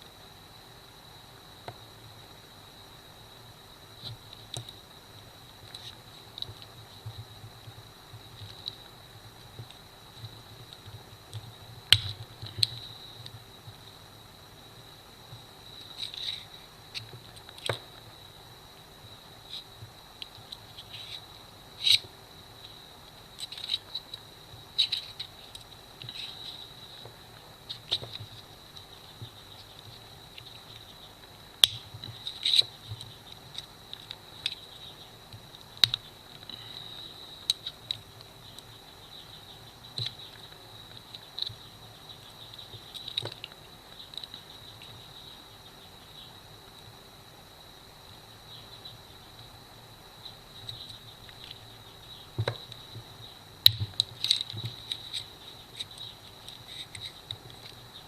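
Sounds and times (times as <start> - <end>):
faint high whine: 0.0 - 58.0.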